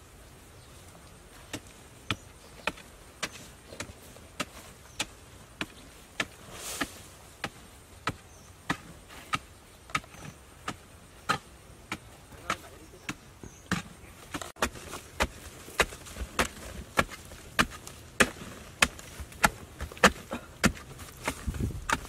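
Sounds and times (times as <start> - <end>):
loose soil scraping: 0.0 - 22.0
digging tool striking hard earth: 1.5 - 22.0.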